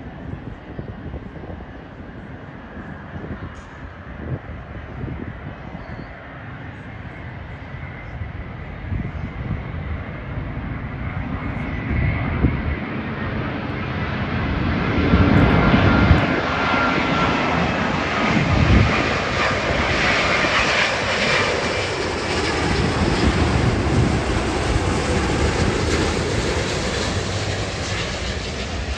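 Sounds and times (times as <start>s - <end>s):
jet airliner rumble and whine: 0.0s - 28.9s.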